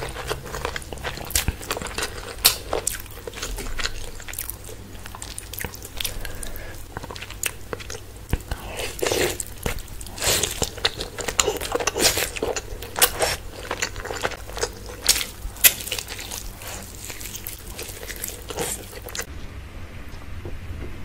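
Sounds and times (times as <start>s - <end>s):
crisp biting and crunching: 0.0s - 19.3s
wet chewing: 0.0s - 19.3s.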